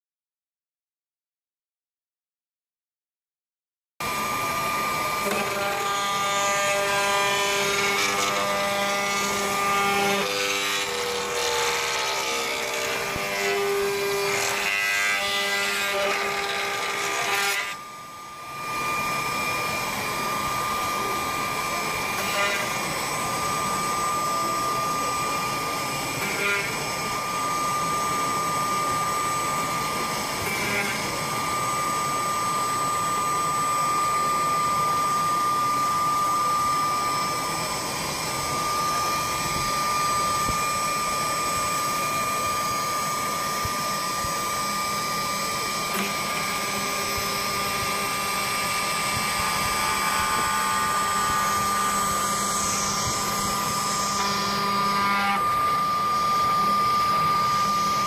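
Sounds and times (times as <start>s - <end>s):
router spindle whine: 4.0s - 58.0s.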